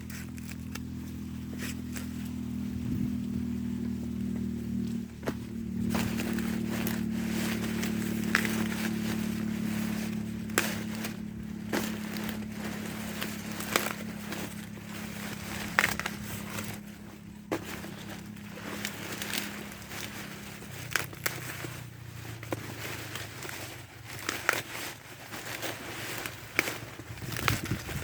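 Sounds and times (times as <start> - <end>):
corn ears snapping off stalks: 0.0 - 28.0
dry husks rustling: 0.0 - 28.0
steady low hum: 0.0 - 28.0.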